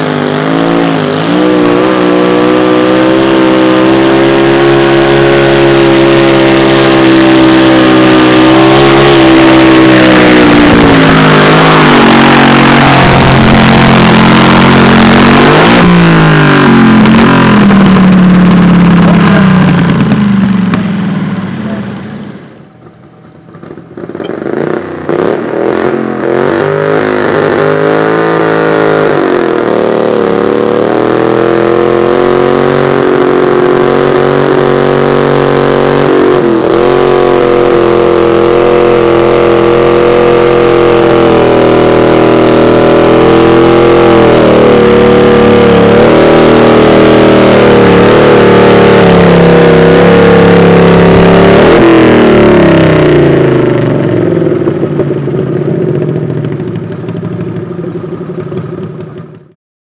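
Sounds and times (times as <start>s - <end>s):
another engine: 0.0s - 59.6s
tractor engine revving: 0.0s - 59.6s.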